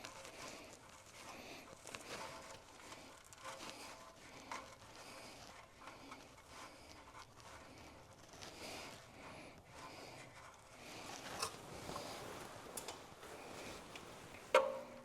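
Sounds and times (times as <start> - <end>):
faint rubbing and scraping: 0.0 - 15.0.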